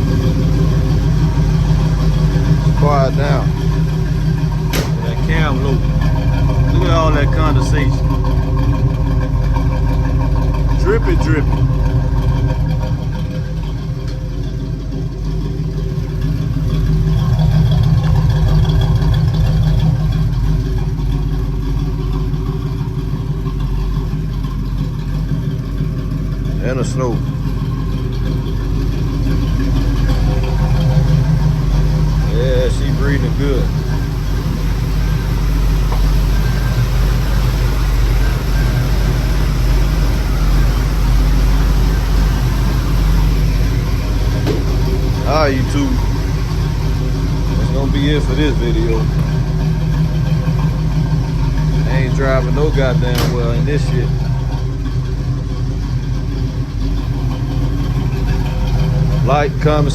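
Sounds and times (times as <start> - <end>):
vee eight engine idling: 0.0 - 59.9.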